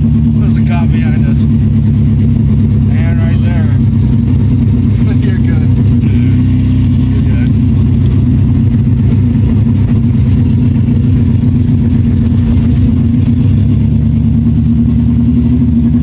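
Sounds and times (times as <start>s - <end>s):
car engine drone from cabin: 0.0s - 16.0s.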